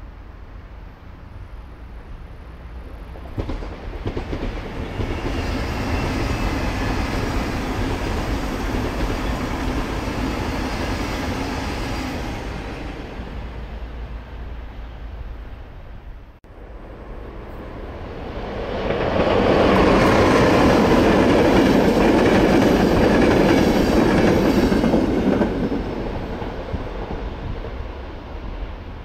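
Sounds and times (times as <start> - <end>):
train wheels rushing on rails: 2.8 - 14.0, 16.9 - 29.0.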